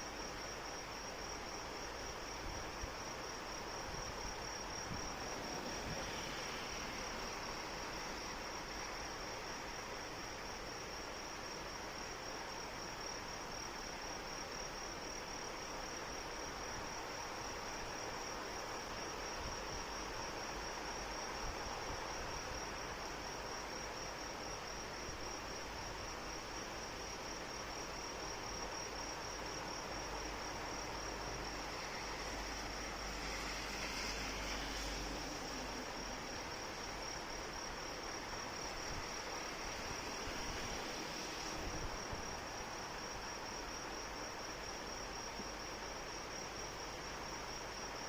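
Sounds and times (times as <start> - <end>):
crickets trilling: 0.0 - 48.0.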